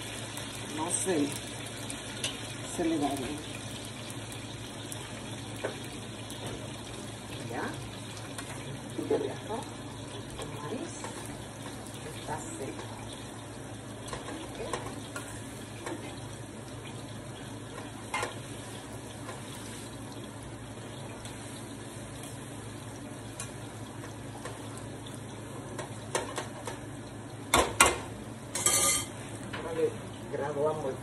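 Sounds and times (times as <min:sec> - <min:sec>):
plantain sizzling in oil: 0:00.0 - 0:31.0.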